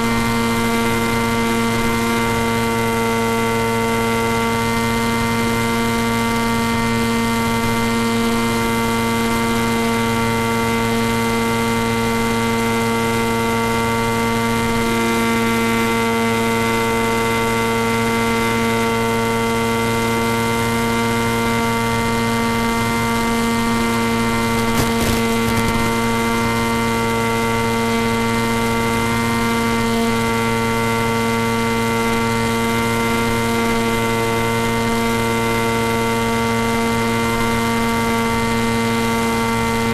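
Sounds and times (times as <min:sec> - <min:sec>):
model plane motor buzz: 0:00.0 - 0:39.9.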